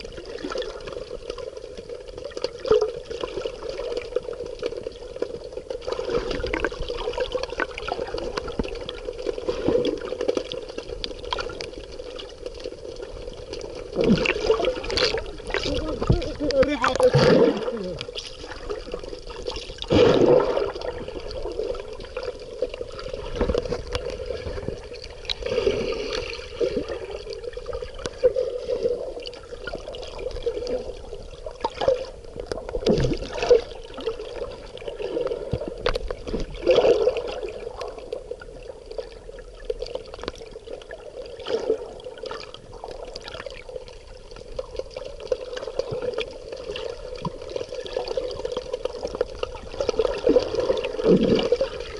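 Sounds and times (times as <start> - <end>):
sea water sloshing and gurgling: 0.0 - 51.9.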